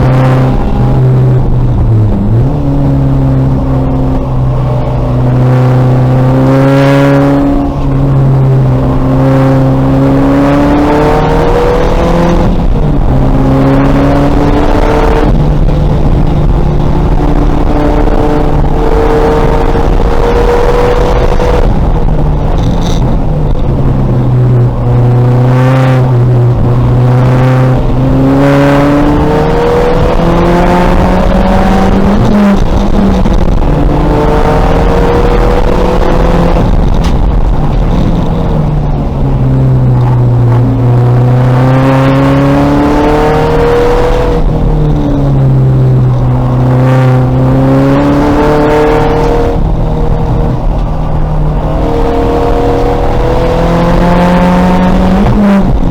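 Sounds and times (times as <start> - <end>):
race car engine revving: 0.0 - 55.9
road noise: 0.0 - 55.9.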